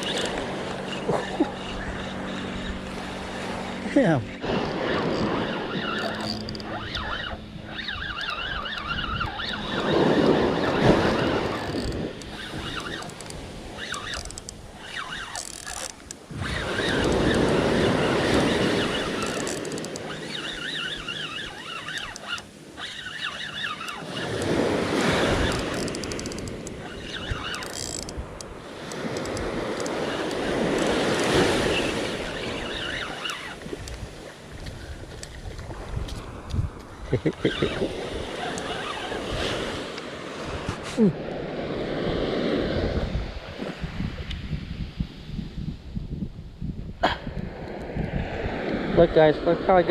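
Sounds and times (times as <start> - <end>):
waves breaking on beach: 0.0 - 45.3
wind on microphone: 0.0 - 49.9.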